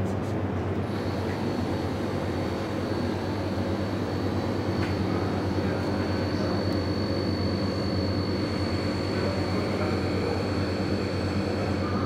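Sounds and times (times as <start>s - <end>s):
high whine: 0.8s - 12.0s.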